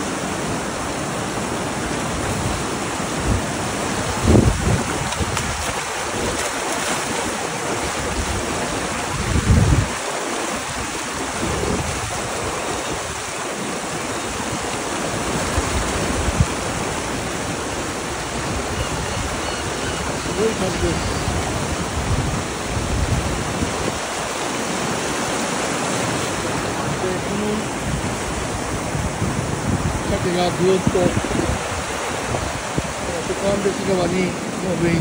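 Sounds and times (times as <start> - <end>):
river water rushing over a weir: 0.0 - 35.0
wind buffeting microphone: 1.6 - 35.0.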